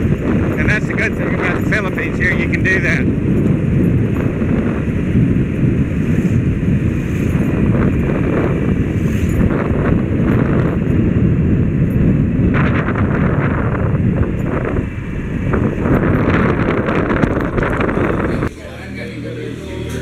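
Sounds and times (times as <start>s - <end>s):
motorcycle engine running: 0.0s - 20.0s
road noise: 0.0s - 20.0s
wind rumbling on microphone: 0.0s - 20.0s.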